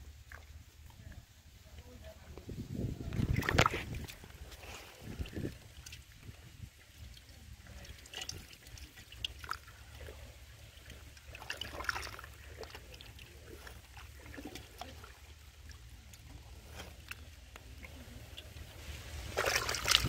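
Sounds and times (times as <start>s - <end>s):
small splashes in muddy water: 3.0s - 20.0s.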